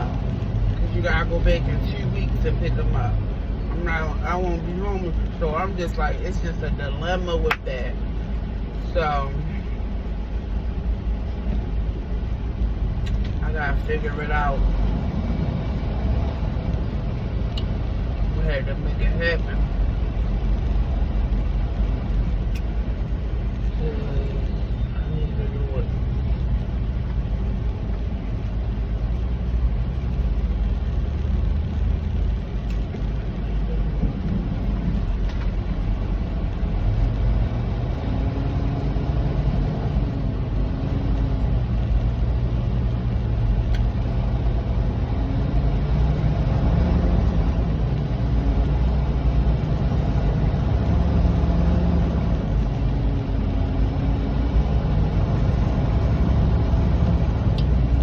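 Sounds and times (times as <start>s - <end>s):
truck diesel engine rumble: 0.0s - 58.0s.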